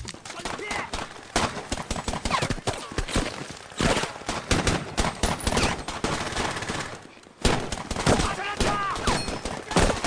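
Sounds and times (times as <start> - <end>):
rifle and machine-gun fire: 0.4 - 10.0.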